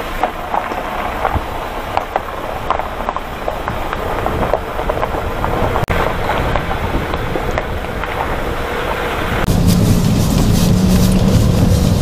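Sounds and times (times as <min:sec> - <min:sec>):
truck rattles and clicks: 0:00.0 - 0:12.0
tyres rumbling on gravel: 0:00.0 - 0:12.0.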